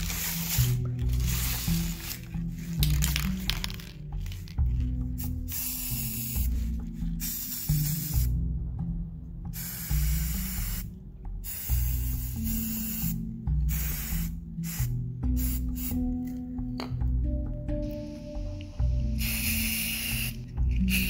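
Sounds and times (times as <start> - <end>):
aerosol spray can hissing: 0.0 - 4.5, 5.2 - 8.3, 9.6 - 16.0, 17.8 - 21.0.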